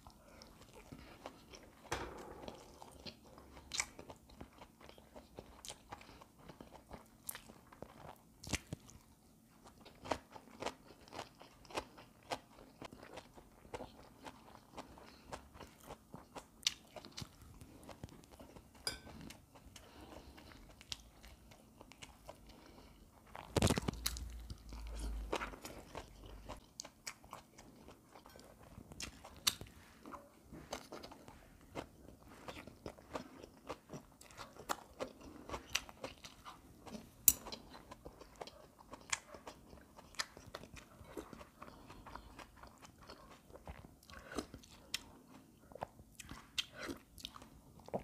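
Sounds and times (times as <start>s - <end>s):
chewing and crunching food: 0.0s - 48.0s.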